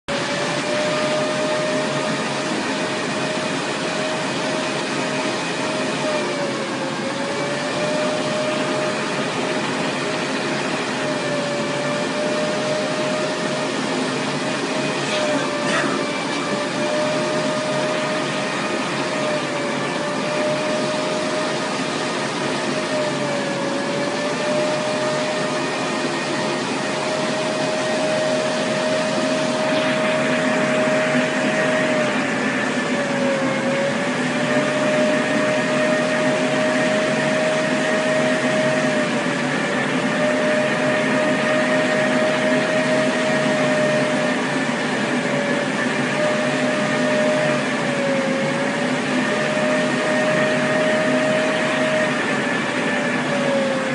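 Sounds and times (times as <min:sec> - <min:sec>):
laser cutter fans whirring: 0:00.1 - 0:53.9.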